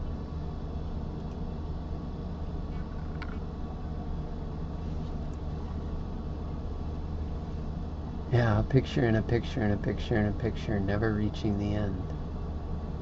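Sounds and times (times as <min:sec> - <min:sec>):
low background hum with hiss: 0:00.0 - 0:13.0.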